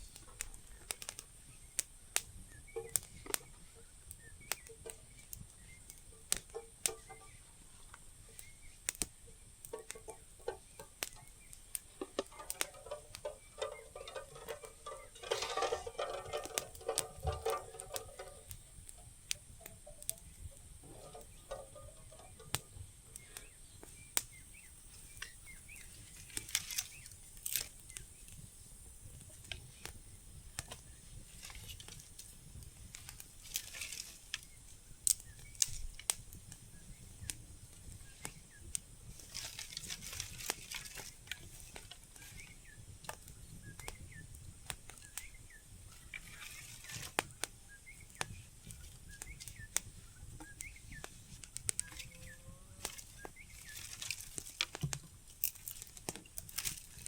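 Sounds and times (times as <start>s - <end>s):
leaves and sticks clicking: 0.0s - 57.0s.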